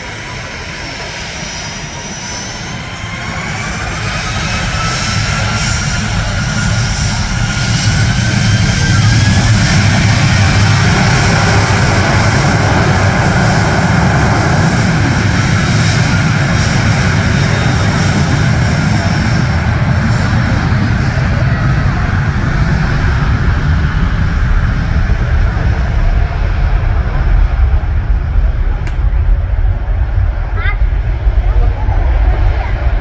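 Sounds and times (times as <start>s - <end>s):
jet engines at takeoff power: 0.0s - 33.0s.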